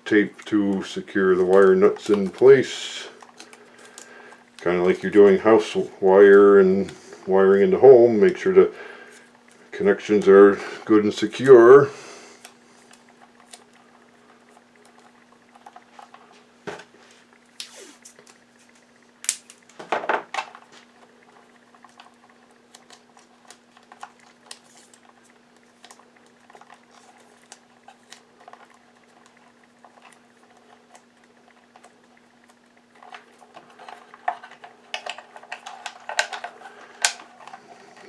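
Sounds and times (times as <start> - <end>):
faint hum: 0.0 - 38.0
handling wires clicks and rustles: 0.0 - 38.0.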